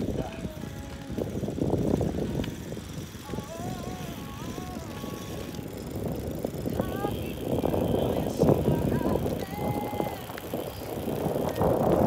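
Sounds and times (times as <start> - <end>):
trike rolling on pavement: 0.0 - 12.0
wind buffeting microphone: 0.0 - 12.0.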